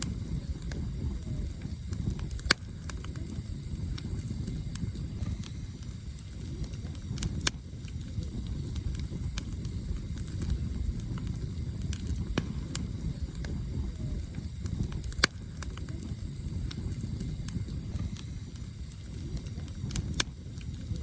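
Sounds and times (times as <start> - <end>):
campfire crackling and popping: 0.0 - 21.0
low fire rumble: 0.0 - 21.0.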